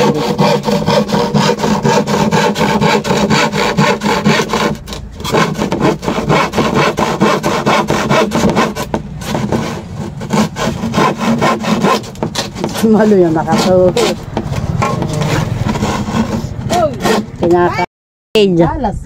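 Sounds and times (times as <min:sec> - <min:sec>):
handsaw sawing board: 0:00.0 - 0:17.7.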